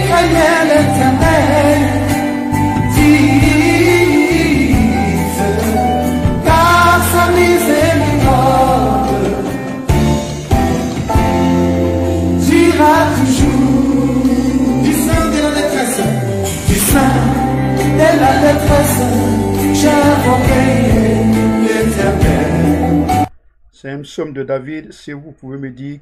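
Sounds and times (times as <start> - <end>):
gospel band with drums and bass: 0.0 - 23.3.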